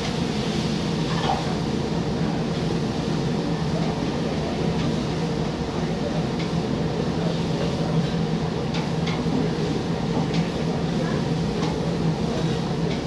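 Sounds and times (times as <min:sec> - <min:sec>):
food sizzling on griddle: 0:00.0 - 0:13.0.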